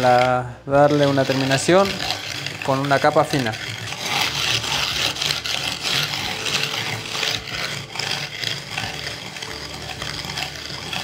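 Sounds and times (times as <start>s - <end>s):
wooden float scraping cement: 0.0s - 11.0s.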